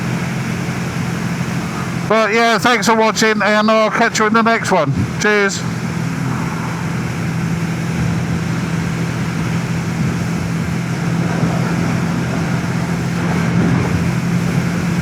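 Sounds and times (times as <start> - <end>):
motorcycle engine: 0.0 - 2.2, 4.8 - 15.0
wind and road noise: 0.0 - 15.0.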